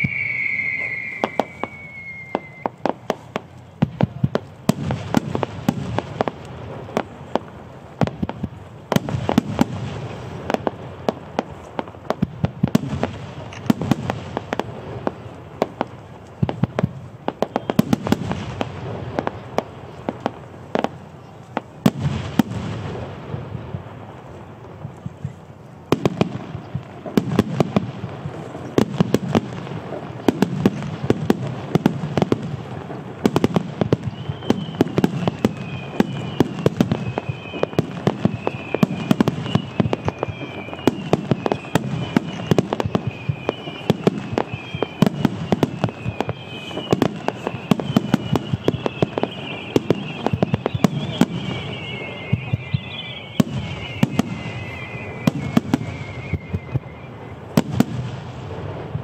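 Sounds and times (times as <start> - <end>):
falling firework whistles: 0.0 - 59.0
firework barrage bangs and booms: 0.0 - 59.0.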